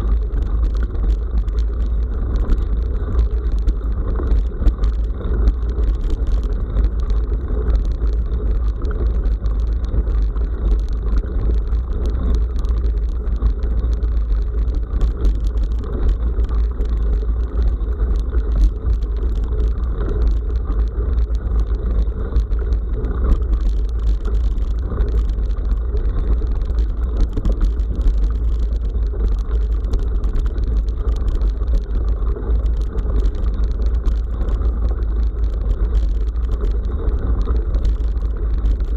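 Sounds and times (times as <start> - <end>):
bicycle clicks and rattles: 0.0 - 38.9
wind rumble on microphone: 0.0 - 38.9.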